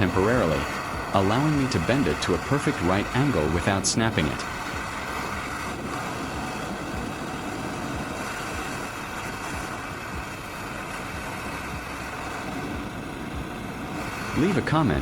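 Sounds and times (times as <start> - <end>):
blowtorch flame rushing: 0.0 - 15.0.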